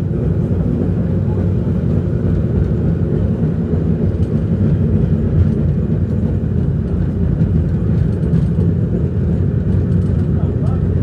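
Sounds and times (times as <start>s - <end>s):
cable car wheels rumbling on rails: 0.0s - 11.0s.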